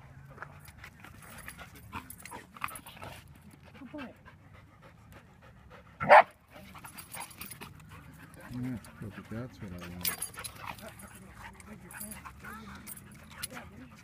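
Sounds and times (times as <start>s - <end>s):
dogs panting and scuffling: 0.0s - 14.0s.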